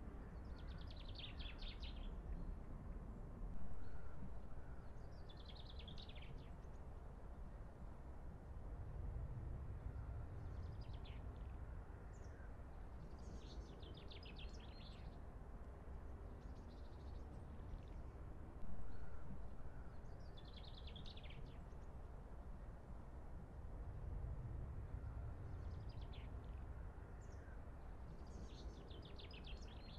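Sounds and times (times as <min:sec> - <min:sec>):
low outdoor rumble: 0:02.3 - 0:14.0, 0:14.6 - 0:29.9.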